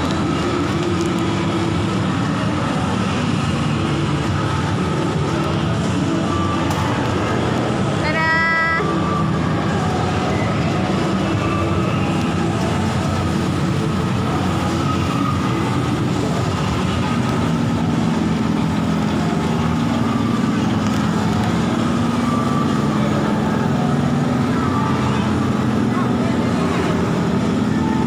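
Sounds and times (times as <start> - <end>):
ride machinery humming: 0.0 - 28.0.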